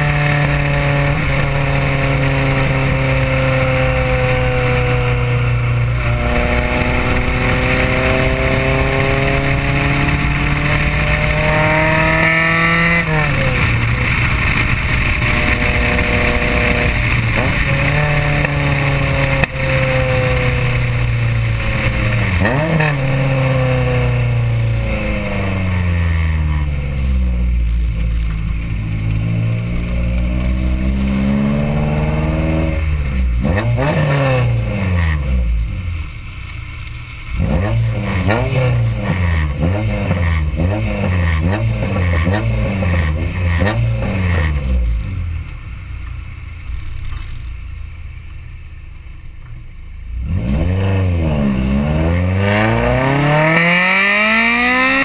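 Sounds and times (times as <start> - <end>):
four-cylinder engine revving: 0.0 - 36.5, 37.1 - 48.2, 49.4 - 55.0.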